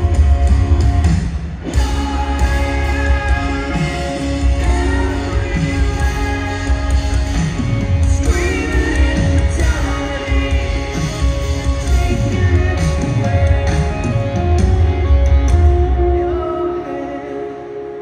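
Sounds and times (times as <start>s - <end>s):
live rock band playing: 0.0s - 18.0s
person singing: 1.7s - 14.4s, 15.9s - 18.0s.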